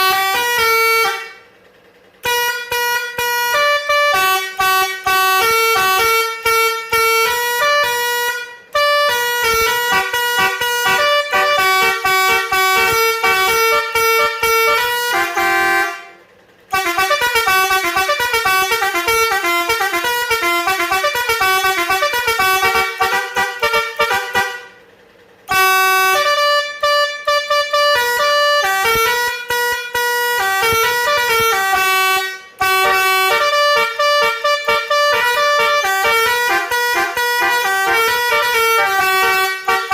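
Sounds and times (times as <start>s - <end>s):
electronic musical vehicle horn: 0.0s - 39.9s.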